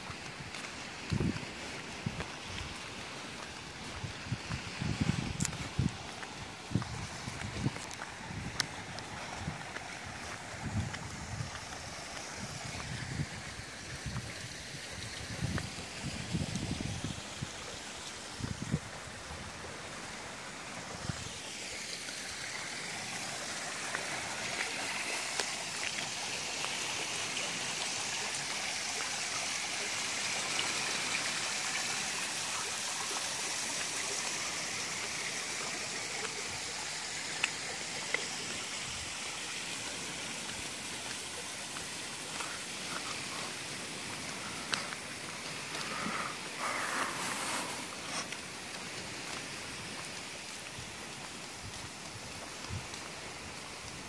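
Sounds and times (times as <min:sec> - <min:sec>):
running water hiss: 0:00.0 - 0:54.0.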